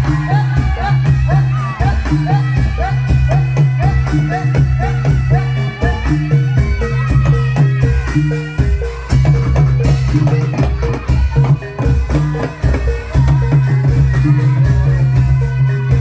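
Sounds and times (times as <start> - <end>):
drum strokes: 0.0 - 16.0
metallophone notes: 0.0 - 16.0.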